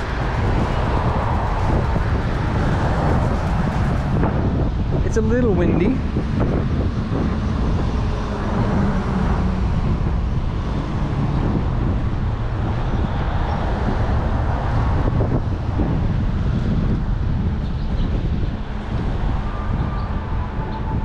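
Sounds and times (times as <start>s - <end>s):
street traffic: 0.0s - 21.0s
wind rumbling on microphone: 0.0s - 21.0s.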